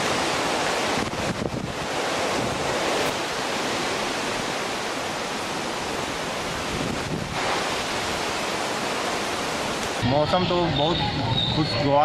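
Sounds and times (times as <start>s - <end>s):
storm wind and rain rushing: 0.0s - 12.0s.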